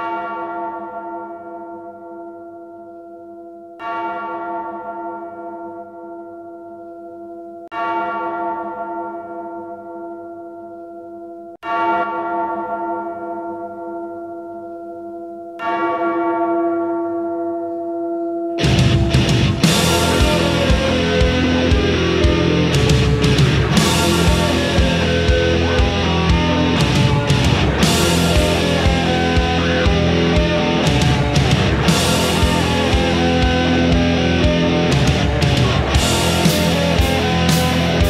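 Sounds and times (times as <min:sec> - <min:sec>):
large church bell tolling: 0:00.0 - 0:38.0.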